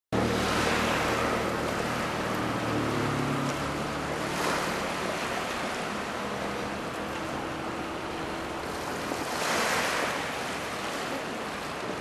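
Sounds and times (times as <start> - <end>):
small waves washing on rocks: 0.2 - 12.0.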